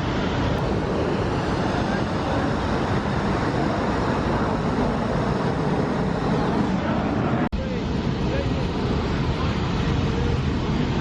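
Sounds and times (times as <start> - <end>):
road traffic noise: 0.0 - 11.0
crowd voices: 0.6 - 11.0.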